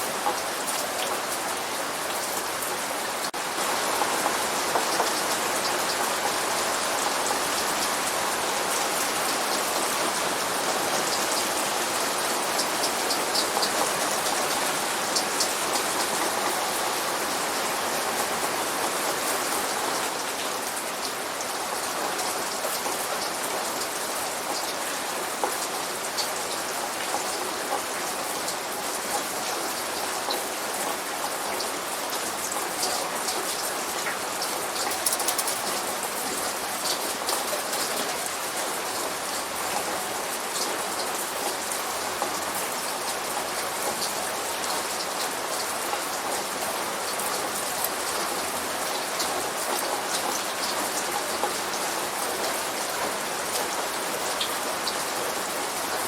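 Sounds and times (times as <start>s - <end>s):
light rain falling: 0.0s - 56.0s.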